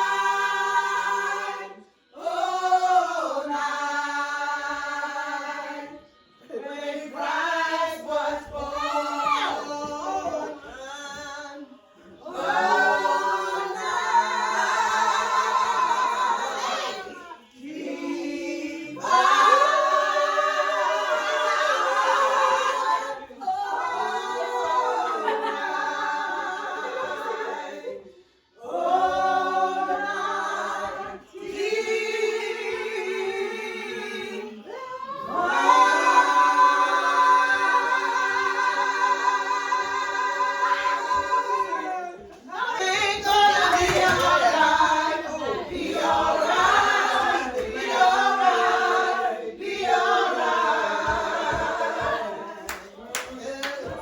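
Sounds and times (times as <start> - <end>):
choir singing unaccompanied: 0.0 - 54.0.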